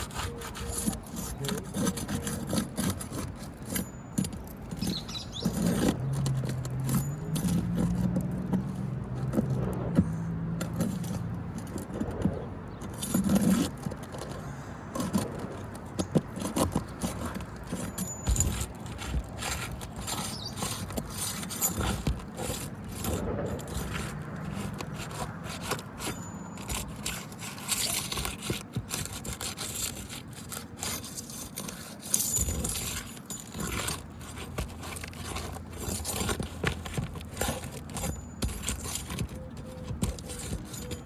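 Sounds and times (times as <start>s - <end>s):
roof shingles scraping: 0.0s - 41.0s
metallic clinks and clicks: 0.2s - 9.9s, 15.0s - 41.0s.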